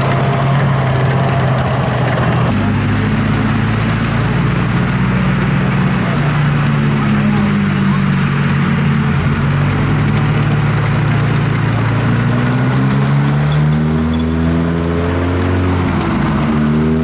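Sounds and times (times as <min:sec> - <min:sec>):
tank engine running: 0:00.0 - 0:17.0.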